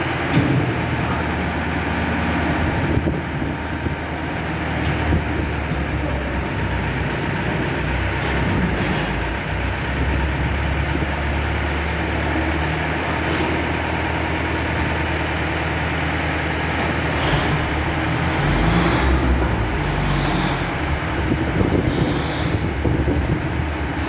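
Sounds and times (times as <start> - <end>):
diesel machinery engine droning: 0.0 - 24.0.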